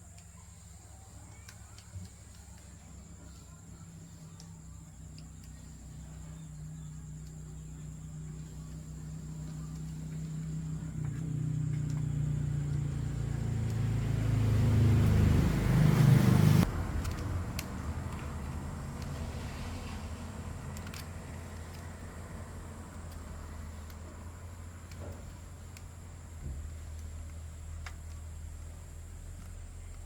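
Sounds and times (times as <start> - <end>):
motor humming: 0.0 - 30.0.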